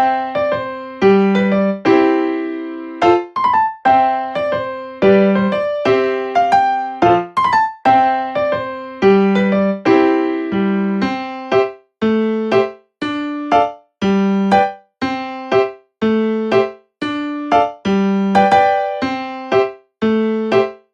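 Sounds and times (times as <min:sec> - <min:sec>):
piano melody with chords: 0:00.0 - 0:20.9.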